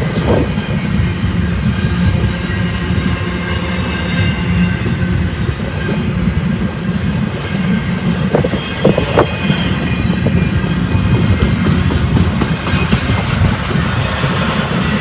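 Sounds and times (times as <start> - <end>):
train clanks: 0.0 - 15.0
train wheels rumbling on rail: 0.0 - 15.0.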